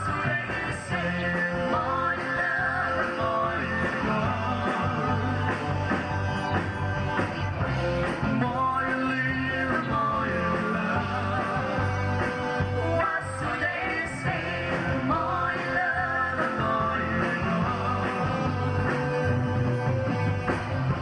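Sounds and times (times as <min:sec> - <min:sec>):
voices singing: 0:00.0 - 0:20.5
bass line: 0:00.0 - 0:21.0
electric guitar: 0:00.0 - 0:21.0
keyboard: 0:00.0 - 0:21.0.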